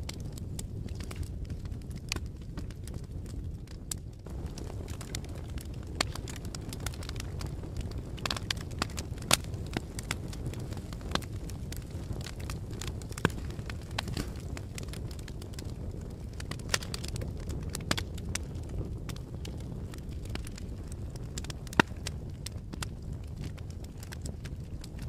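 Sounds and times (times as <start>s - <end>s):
fire flames rumbling: 0.0s - 25.0s
fire popping and snapping: 0.0s - 25.0s.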